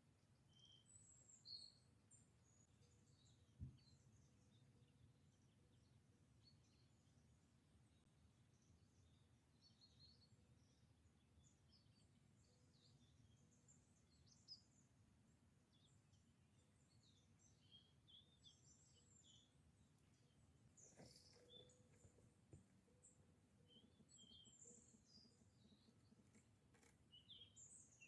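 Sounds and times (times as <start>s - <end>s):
songbird chirps and calls: 0.1s - 28.0s.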